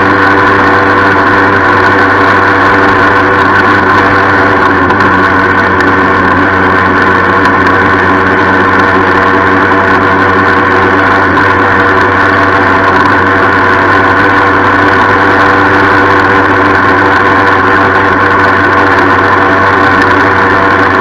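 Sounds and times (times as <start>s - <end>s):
moped engine running: 0.0s - 21.0s.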